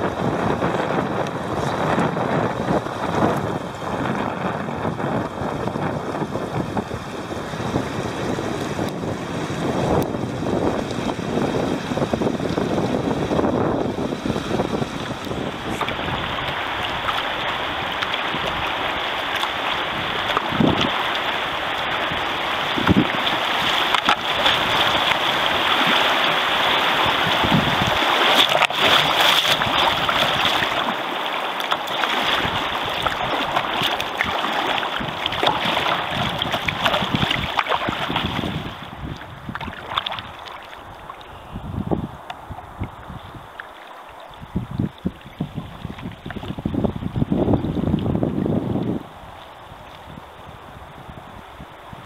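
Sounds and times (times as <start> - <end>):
wind buffeting microphone: 0.0 - 31.4, 32.0 - 43.6, 44.3 - 52.0
water slapping against kayak hull: 0.0 - 41.3, 42.3 - 50.1
water rushing and splashing: 0.0 - 52.0.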